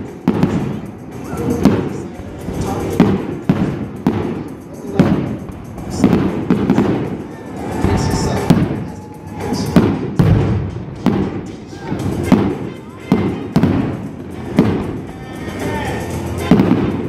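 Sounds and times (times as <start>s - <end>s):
fireworks booming and crackling: 0.0s - 15.2s, 16.4s - 17.0s
recorded music: 0.0s - 17.0s.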